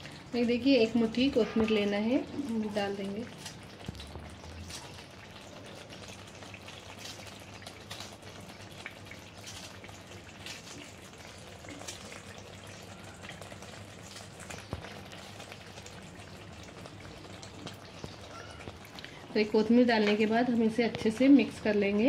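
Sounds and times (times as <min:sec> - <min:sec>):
curry bubbling and popping: 0:00.0 - 0:22.0.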